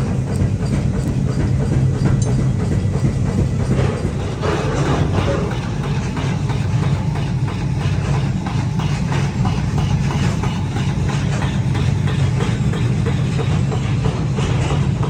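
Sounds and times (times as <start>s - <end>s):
rapid irregular clatter: 0.0s - 15.0s.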